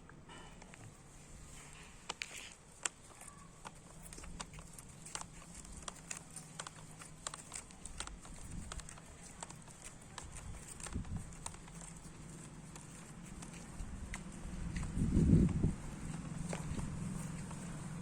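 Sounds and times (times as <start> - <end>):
light clicks and taps: 0.1 - 18.0.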